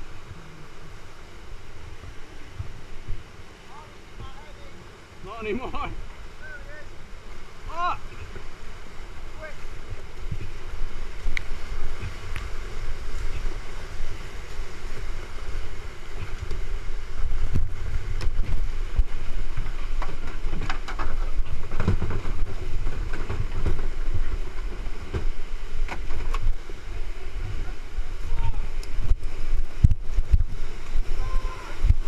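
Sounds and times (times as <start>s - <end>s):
kayak hulls and paddles knocking: 0.0s - 32.0s
whitewater rapids rushing: 0.0s - 32.0s
wind buffeting microphone: 0.0s - 32.0s.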